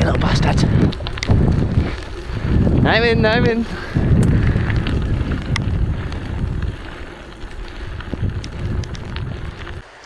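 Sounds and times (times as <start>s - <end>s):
sharp ticks and rattles: 0.0s - 10.0s
wind buffeting microphone: 0.0s - 10.0s.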